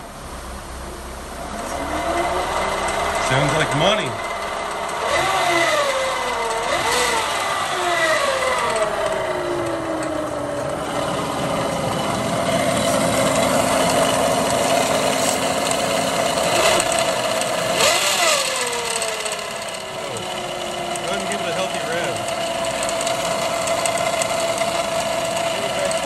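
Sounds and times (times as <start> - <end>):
car engine running: 0.0 - 26.0
high screeching alternator whine: 0.0 - 26.0.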